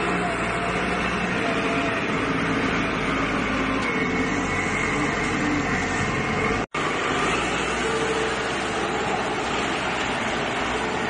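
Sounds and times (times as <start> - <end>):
backhoe loader diesel engine: 0.0 - 11.0.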